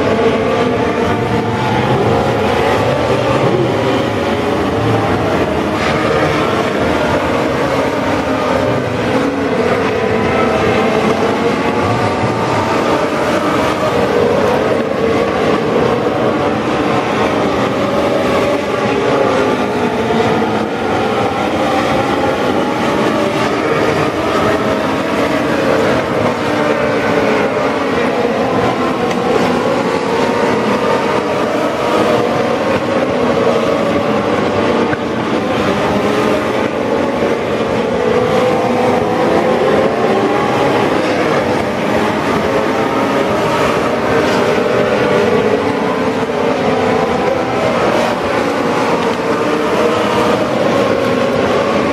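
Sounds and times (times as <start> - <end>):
race car engines at high revs: 0.0 - 51.9.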